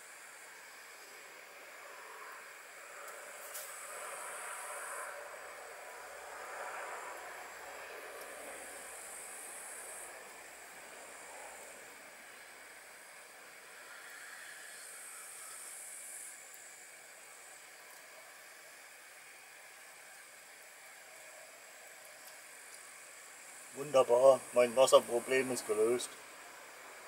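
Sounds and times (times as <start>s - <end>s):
higher hiss: 0.0s - 27.0s
steady soft hiss: 0.0s - 27.0s.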